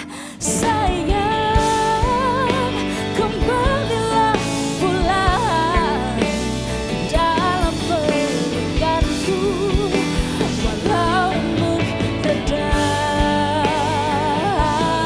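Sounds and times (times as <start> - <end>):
live pop-rock band: 0.0 - 15.0
woman singing lead: 0.0 - 15.0.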